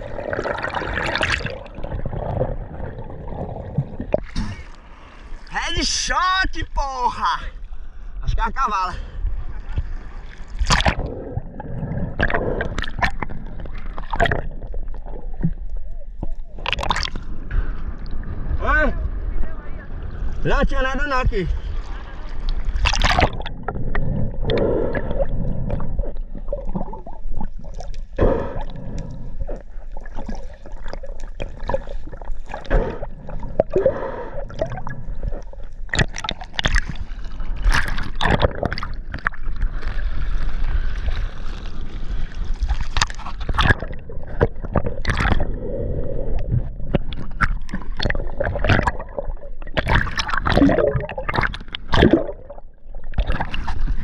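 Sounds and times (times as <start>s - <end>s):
sea water sloshing and gurgling: 0.0s - 6.0s, 6.6s - 54.0s
water splashes: 0.0s - 7.7s, 8.7s - 45.7s, 46.3s - 54.0s.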